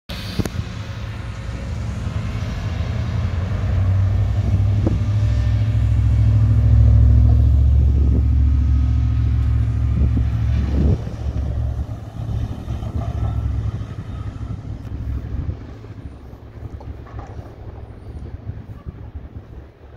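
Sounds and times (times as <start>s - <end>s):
garbage truck driving by: 0.1s - 19.9s.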